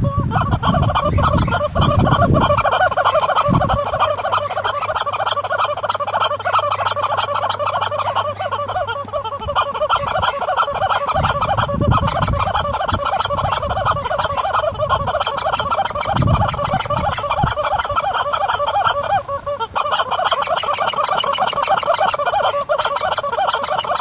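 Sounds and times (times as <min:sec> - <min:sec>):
rubber squeaky toy squawking: 0:00.0 - 0:24.0.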